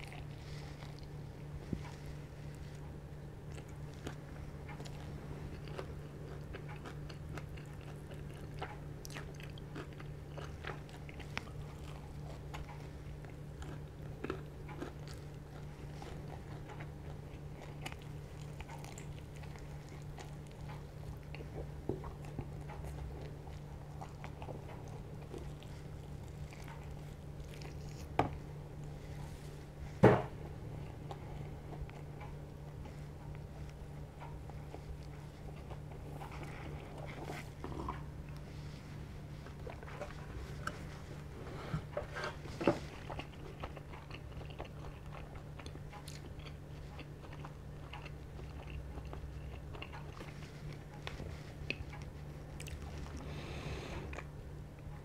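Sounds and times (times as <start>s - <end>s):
chewing and biting: 0.0s - 55.0s.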